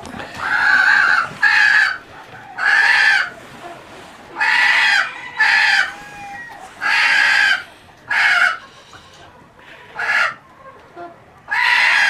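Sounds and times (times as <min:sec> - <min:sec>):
chickens squawking: 0:00.0 - 0:12.0.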